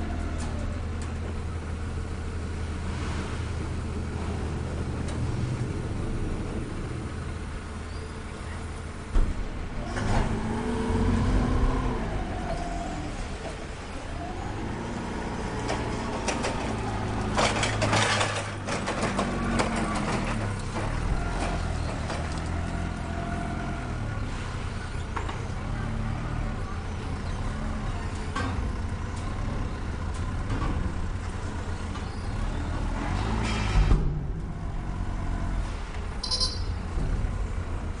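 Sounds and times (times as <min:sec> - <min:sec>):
forklift engine under load: 0:00.0 - 0:38.0.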